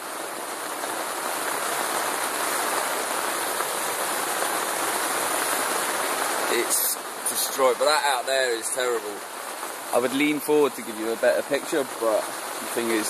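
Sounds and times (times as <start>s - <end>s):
rain on a tent: 0.0s - 13.0s.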